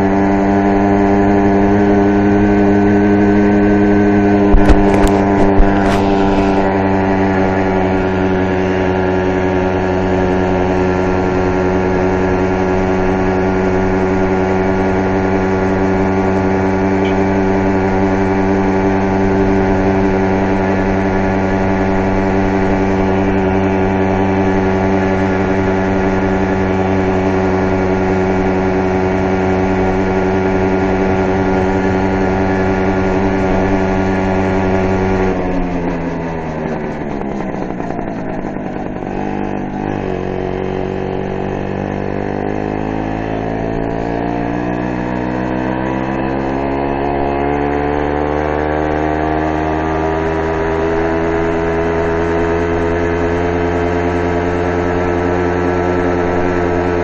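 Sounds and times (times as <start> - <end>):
vehicle motor running: 0.0 - 57.0.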